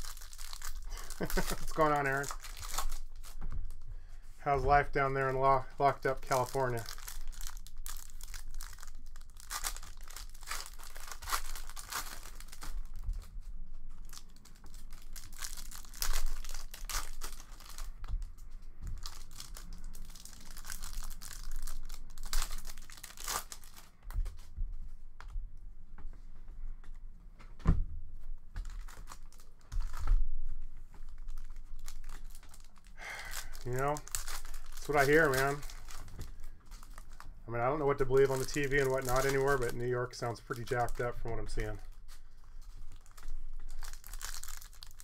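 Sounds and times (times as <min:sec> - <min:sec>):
foil wrappers tearing and crinkling: 0:00.0 - 0:03.8, 0:04.6 - 0:13.3, 0:14.0 - 0:24.2, 0:28.6 - 0:30.2, 0:31.0 - 0:45.0.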